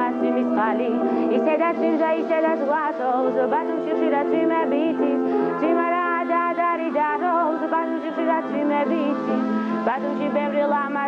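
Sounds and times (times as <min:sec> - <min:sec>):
woman singing with vibrato: 0:00.0 - 0:11.0.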